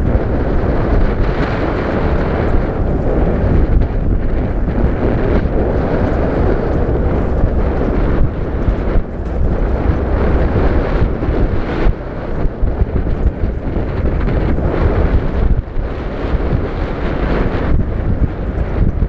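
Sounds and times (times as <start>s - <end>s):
vehicle driving on dirt track: 0.0s - 19.0s
wind buffeting the microphone: 0.0s - 19.0s.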